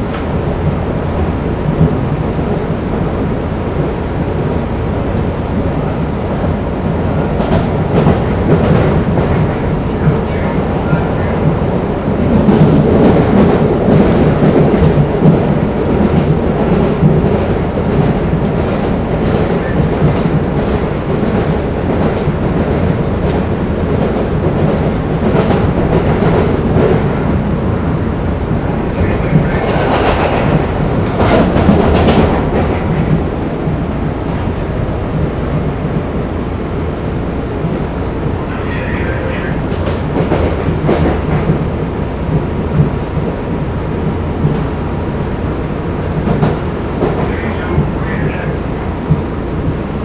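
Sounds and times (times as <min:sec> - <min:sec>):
subway car rumble: 0:00.0 - 0:50.0.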